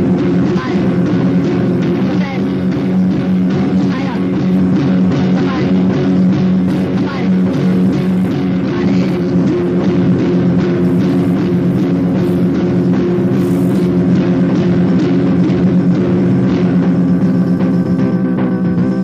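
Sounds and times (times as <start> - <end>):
drum kit: 0.0 - 19.0
punk band with distorted guitars: 0.0 - 19.0.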